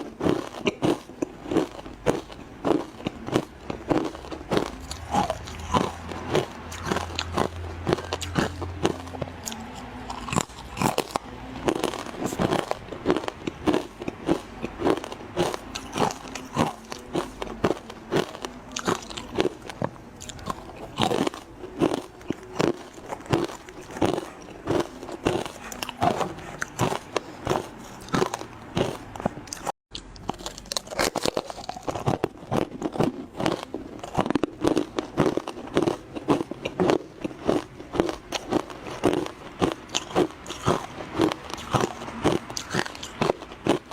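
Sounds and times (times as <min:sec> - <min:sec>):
crunching frozen ice: 0:00.0 - 0:43.9.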